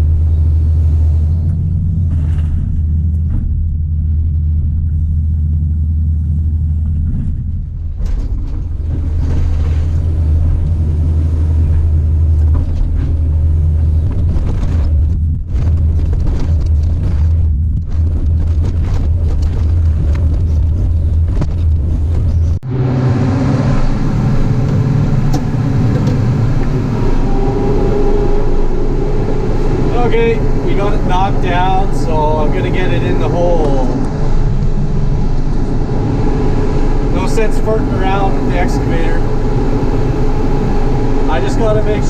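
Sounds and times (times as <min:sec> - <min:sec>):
diesel engine with rough clatter: 0:00.0 - 0:42.0.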